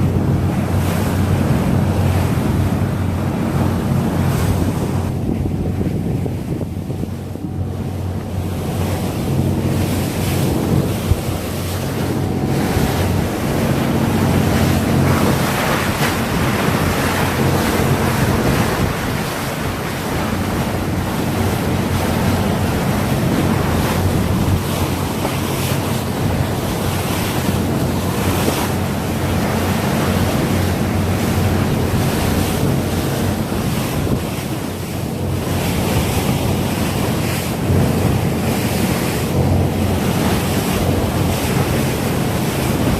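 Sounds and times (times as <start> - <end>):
water rushing past hull: 0.0 - 42.9
wind buffeting microphone: 0.0 - 42.9.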